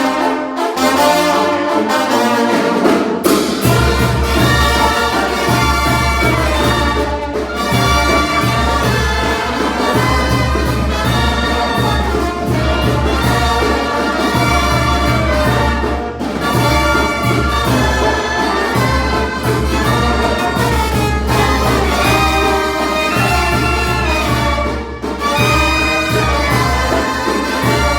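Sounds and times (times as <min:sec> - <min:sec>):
brass band playing: 0:00.0 - 0:27.9.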